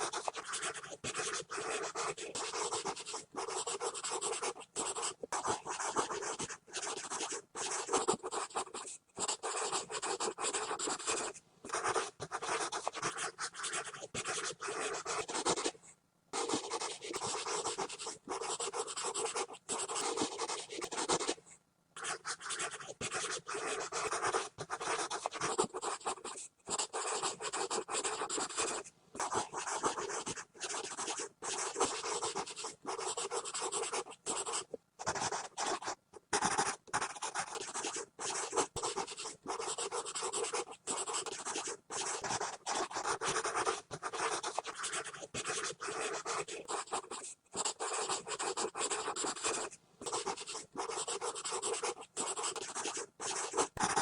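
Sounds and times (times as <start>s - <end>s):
pencil scribbling on paper: 0.0s - 15.8s, 16.4s - 21.4s, 22.0s - 54.0s.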